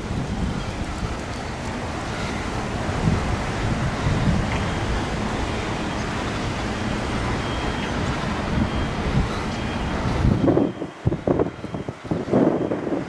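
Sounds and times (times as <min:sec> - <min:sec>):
vehicle engine rumbling: 0:00.0 - 0:13.0
wind noise on microphone: 0:00.0 - 0:13.0.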